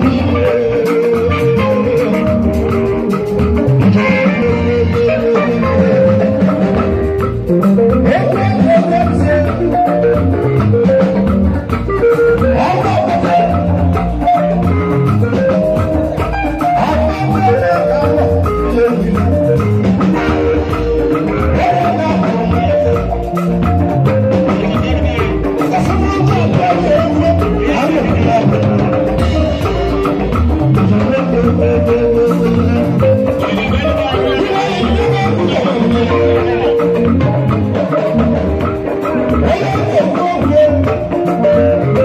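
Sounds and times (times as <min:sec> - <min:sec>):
live highlife band music: 0:00.0 - 0:42.0.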